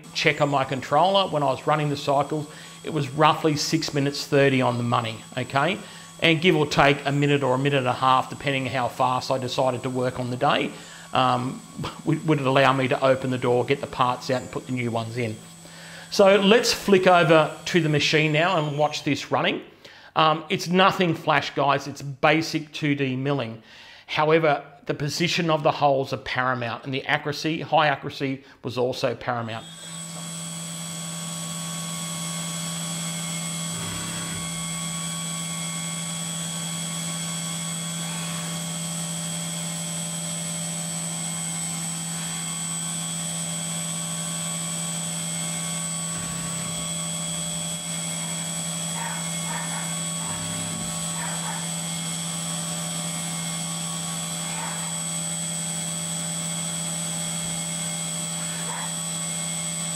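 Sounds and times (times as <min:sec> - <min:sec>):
milling machine humming and whining: 0:00.0 - 0:19.1, 0:29.6 - 0:59.9.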